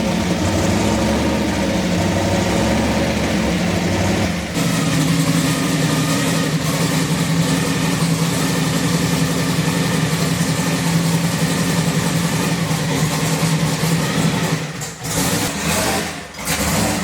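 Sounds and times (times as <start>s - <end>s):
race car engine droning: 0.0s - 17.0s.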